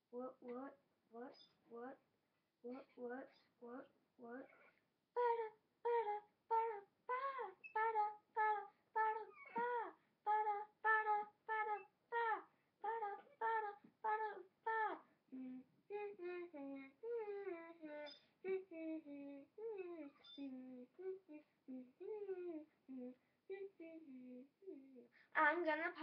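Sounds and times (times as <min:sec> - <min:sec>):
child singing: 0:05.2 - 0:26.0.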